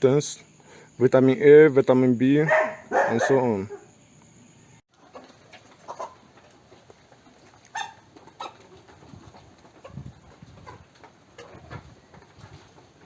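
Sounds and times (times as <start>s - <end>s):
chickens peeping and clucking: 2.2s - 13.0s.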